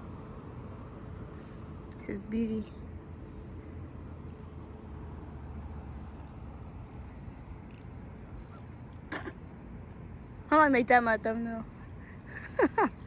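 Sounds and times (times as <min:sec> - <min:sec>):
insect chirring: 0:00.8 - 0:13.0.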